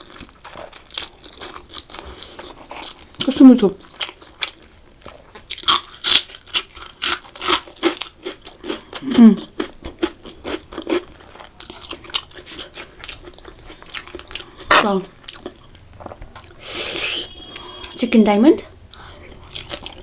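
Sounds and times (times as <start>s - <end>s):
crunchy chewing of onion rings: 0.0s - 18.0s, 18.9s - 20.0s.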